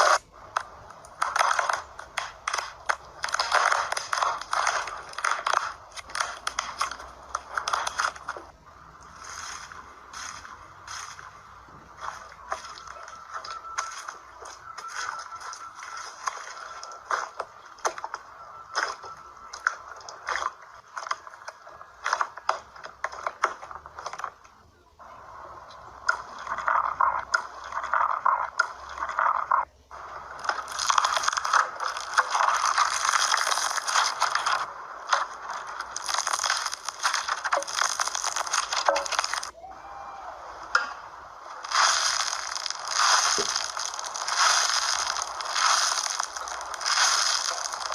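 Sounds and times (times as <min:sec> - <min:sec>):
slime squeezed by hand crackling: 0:00.0 - 0:24.2, 0:30.4 - 0:39.6, 0:41.5 - 0:47.9.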